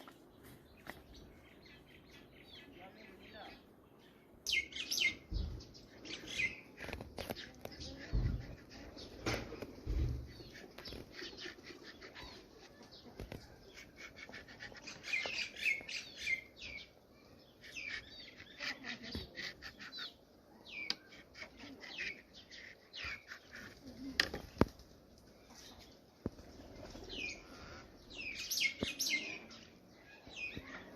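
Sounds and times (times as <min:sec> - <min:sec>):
birds chirping: 0:00.0 - 0:30.9.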